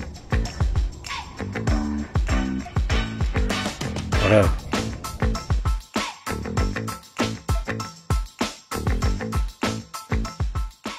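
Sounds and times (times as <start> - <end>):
music with fast kick drum beat: 0.0 - 1.0, 1.7 - 10.9.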